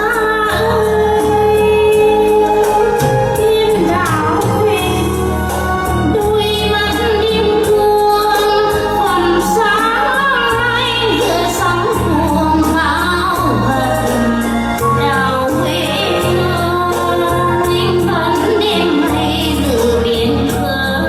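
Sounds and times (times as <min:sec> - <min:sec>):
instrumental backing music: 0:00.0 - 0:21.0
woman singing with vibrato: 0:00.0 - 0:21.0.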